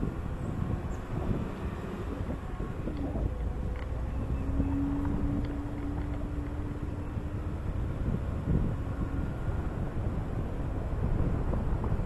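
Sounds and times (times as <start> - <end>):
road and tyre rumble: 0.0 - 12.0
wind on microphone: 0.0 - 12.0.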